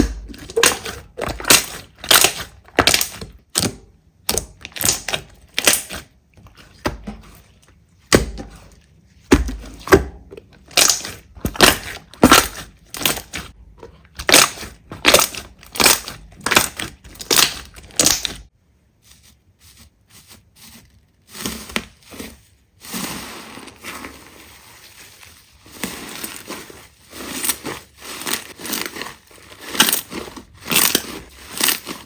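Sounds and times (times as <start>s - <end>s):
slime squishing and crackling: 0.0s - 6.9s, 8.1s - 18.5s, 21.2s - 32.0s.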